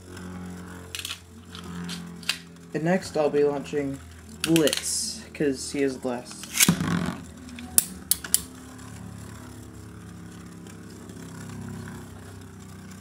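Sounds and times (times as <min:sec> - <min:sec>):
spinning tops whirring: 0:00.0 - 0:13.0.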